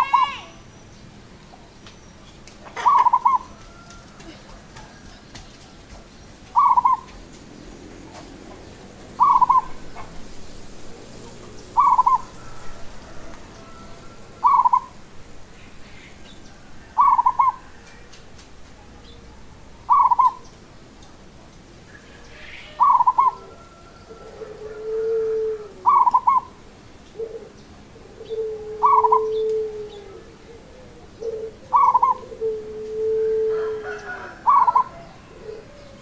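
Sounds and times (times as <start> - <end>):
dove cooing: 0.0 - 0.4, 2.6 - 5.2, 6.5 - 20.5, 22.0 - 36.0.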